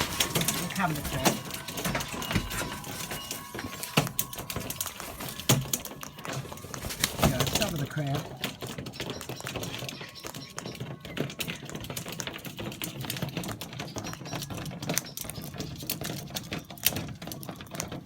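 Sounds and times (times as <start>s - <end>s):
cockatoo beaks clicking and tapping: 0.0s - 18.0s.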